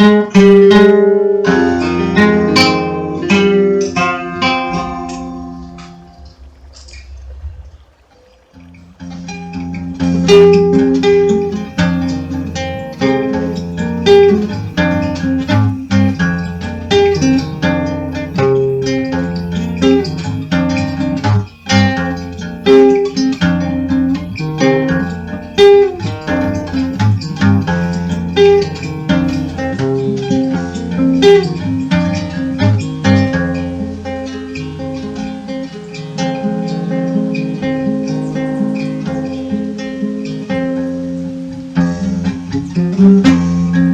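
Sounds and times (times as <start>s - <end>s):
acoustic guitar plucked and strummed: 0.0s - 7.1s, 8.6s - 43.9s.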